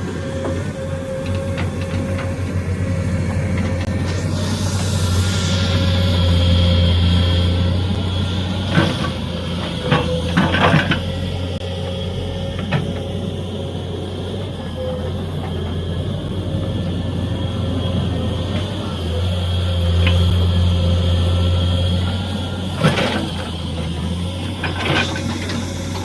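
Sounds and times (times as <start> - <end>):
excavator diesel engine: 0.0 - 26.0.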